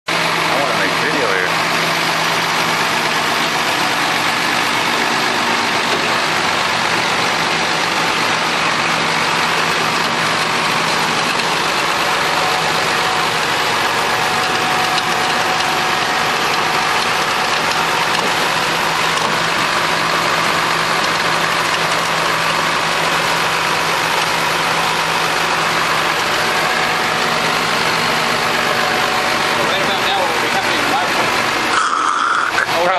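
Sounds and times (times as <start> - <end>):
vehicle engine idling: 0.1 - 32.9.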